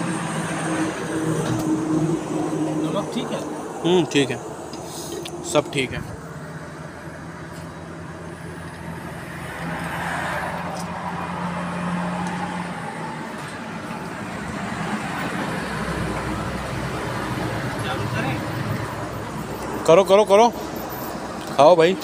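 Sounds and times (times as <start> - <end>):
vehicle engine and tyre noise: 0.0 - 22.0.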